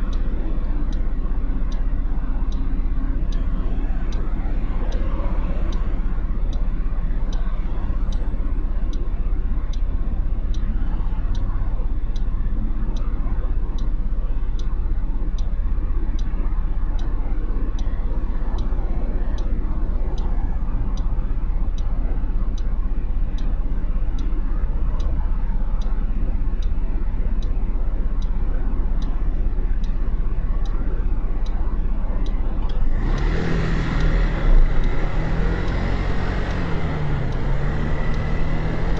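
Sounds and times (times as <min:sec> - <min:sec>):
turn signal ticking: 0:00.0 - 0:38.9.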